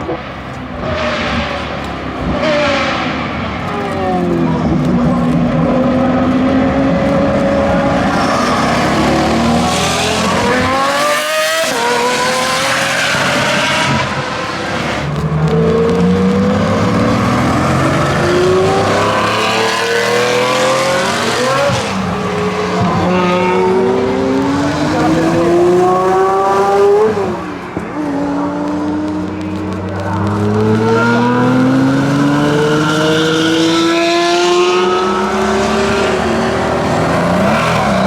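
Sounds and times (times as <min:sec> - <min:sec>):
car engine accelerating through gears: 0:00.0 - 0:38.0.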